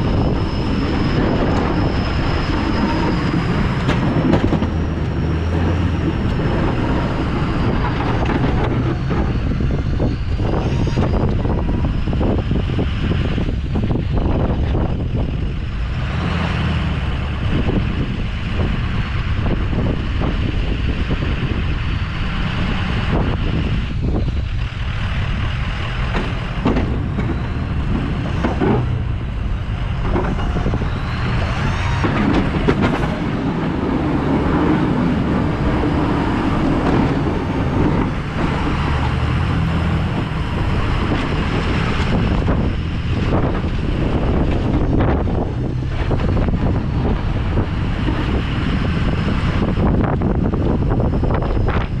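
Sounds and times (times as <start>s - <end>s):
diesel truck engine under load: 0.0s - 52.0s
plow pushing snow: 0.0s - 52.0s.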